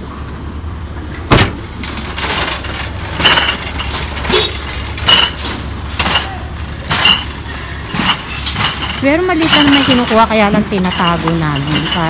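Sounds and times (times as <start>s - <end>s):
glass bottles clinking in cart: 1.8s - 12.0s.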